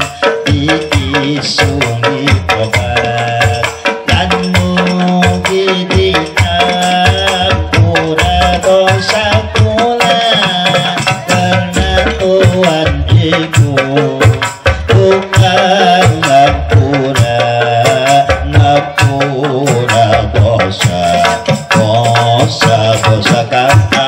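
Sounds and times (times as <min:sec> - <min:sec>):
frame drums and tambourines: 0:00.0 - 0:24.0
man singing into microphone: 0:00.0 - 0:24.0.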